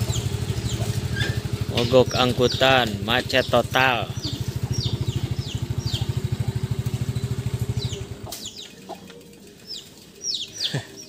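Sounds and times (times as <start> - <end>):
motorcycle engine idling: 0.0 - 11.0
small birds chirping: 0.0 - 11.0.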